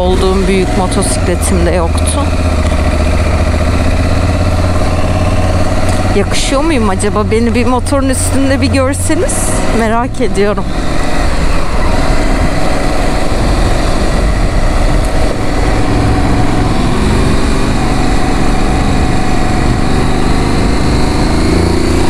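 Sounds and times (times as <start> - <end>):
motorcycle engine running: 0.0 - 22.0
road noise rush: 0.0 - 22.0.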